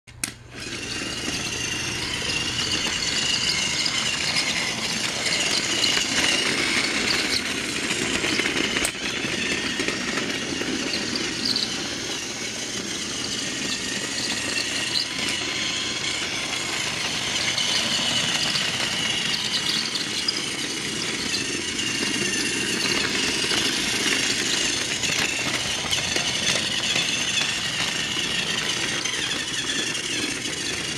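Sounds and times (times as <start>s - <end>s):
toy train motor whirring: 0.1s - 30.9s
toy train wheels rattling: 0.1s - 30.9s.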